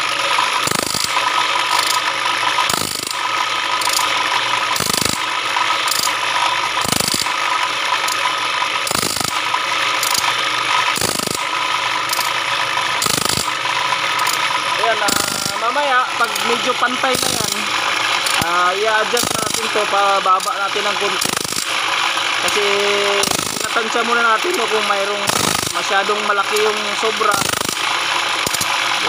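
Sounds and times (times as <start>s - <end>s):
feed mechanism clicking: 0.0s - 12.4s, 13.0s - 29.0s
cutting disc motor whine: 0.0s - 29.0s.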